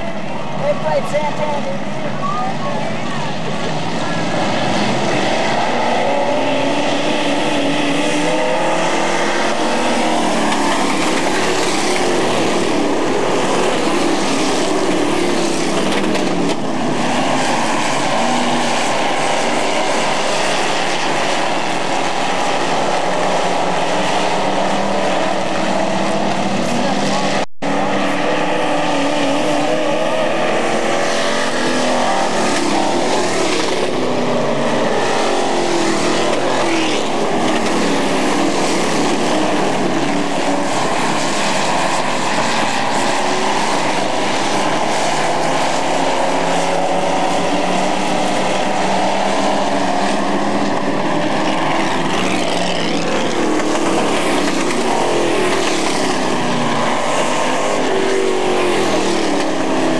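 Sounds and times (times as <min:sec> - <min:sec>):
truck engines racing: 0:00.0 - 0:59.9.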